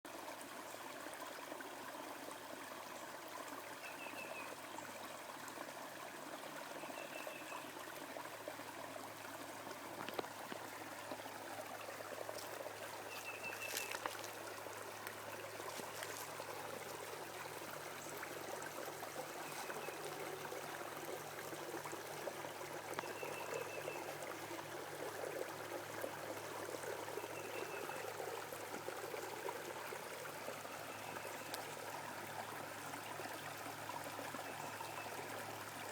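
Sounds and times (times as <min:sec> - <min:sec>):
brook babbling: 0:00.1 - 0:35.9.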